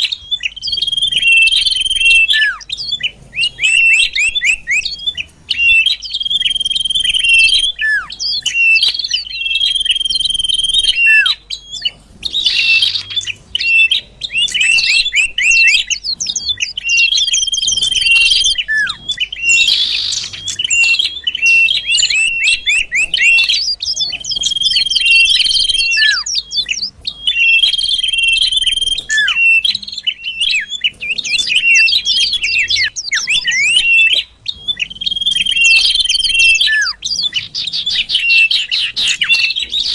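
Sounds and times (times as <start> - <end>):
bird song with trills and whistles: 0.0 - 39.9.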